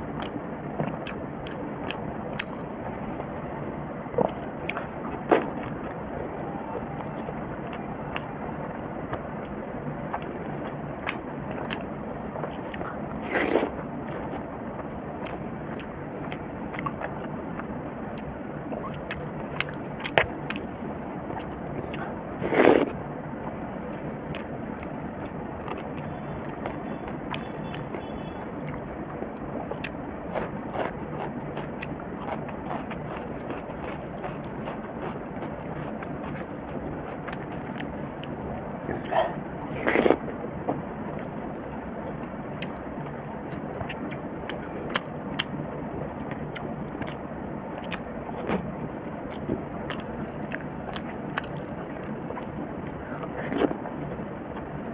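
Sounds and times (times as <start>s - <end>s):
chewing and wet mouth sounds: 0.1s - 2.6s, 4.2s - 8.4s, 9.1s - 23.0s, 23.9s - 40.4s, 41.1s - 41.4s, 42.2s - 45.6s, 46.2s - 54.8s.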